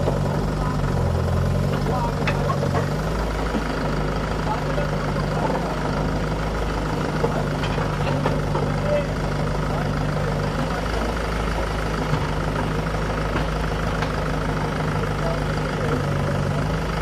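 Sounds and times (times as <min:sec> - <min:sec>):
backhoe loader engine working: 0:00.0 - 0:17.0
tractor diesel engine idling: 0:00.0 - 0:17.0.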